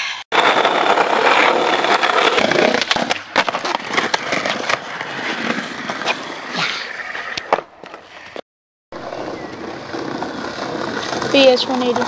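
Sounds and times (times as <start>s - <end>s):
skateboard wheels rolling on stones: 0.4s - 8.4s, 9.0s - 12.0s.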